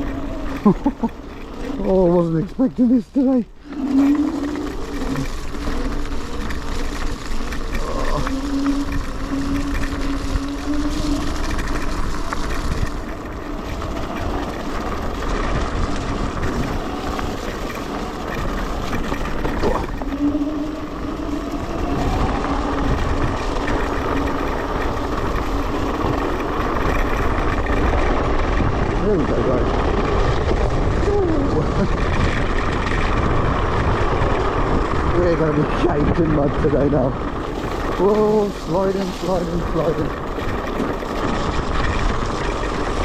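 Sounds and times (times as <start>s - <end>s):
electric motor whine: 0.0s - 43.0s
tyres rumbling on mud: 0.0s - 43.0s
wind on microphone: 0.0s - 43.0s.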